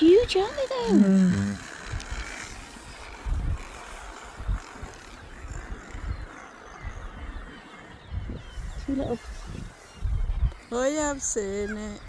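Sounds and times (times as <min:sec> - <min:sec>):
seabirds calling: 0:00.0 - 0:12.0
wind gusts on microphone: 0:00.0 - 0:12.0.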